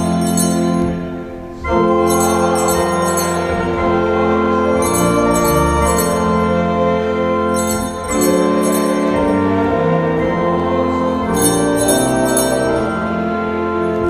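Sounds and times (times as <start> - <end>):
altar bells ringing: 0.0 - 14.0
church organ chords: 0.0 - 14.0.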